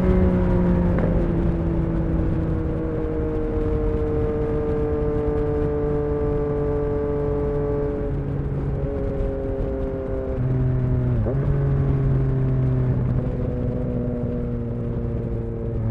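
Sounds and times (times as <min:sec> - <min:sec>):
motorcycle engine exhaust note: 0:00.0 - 0:15.9.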